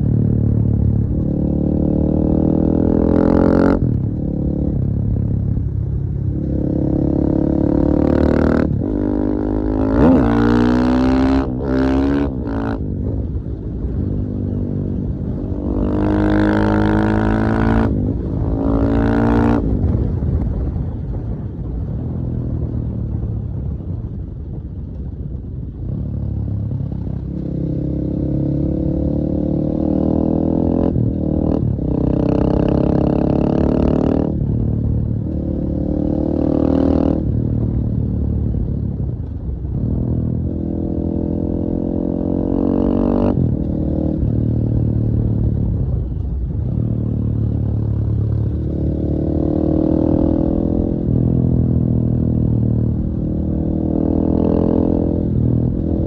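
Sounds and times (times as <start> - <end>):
motorcycle engine revving: 0.0 - 20.0, 26.0 - 56.0.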